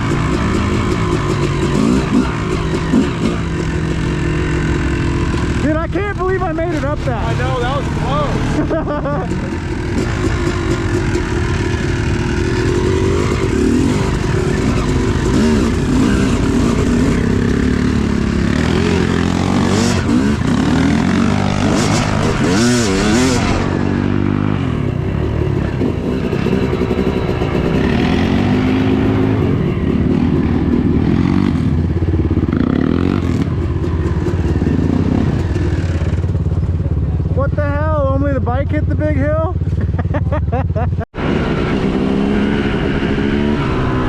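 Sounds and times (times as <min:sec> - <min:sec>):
dirt bike engine revving: 0:00.0 - 0:36.7, 0:38.8 - 0:44.0.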